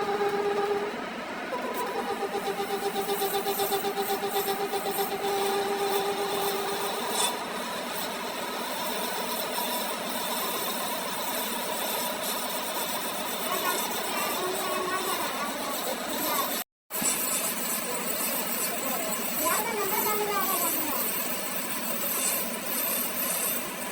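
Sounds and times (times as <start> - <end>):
pulsing machine tone: 0.0 - 23.9
tool scraping metal: 1.6 - 23.9.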